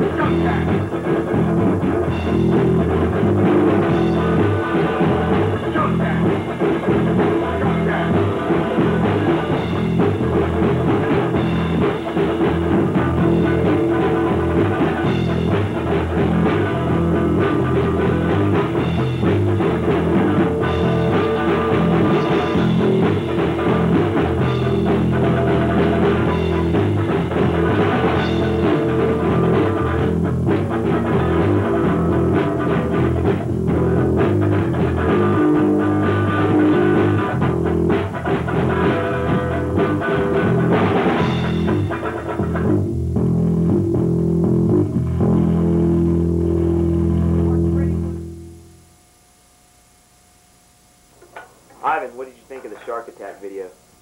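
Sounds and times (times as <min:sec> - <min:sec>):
rock music with guitar and drums: 0:00.0 - 0:48.7.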